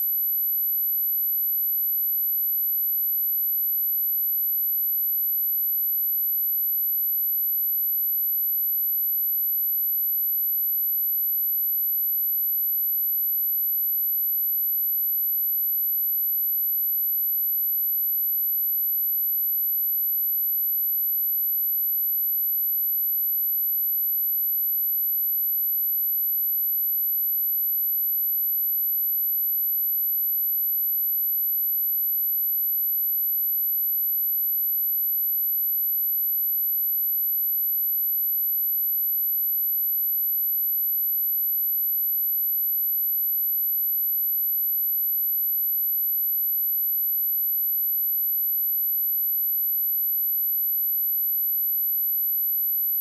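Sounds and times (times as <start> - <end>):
high-pitched sine test tone: 0.0 - 53.0.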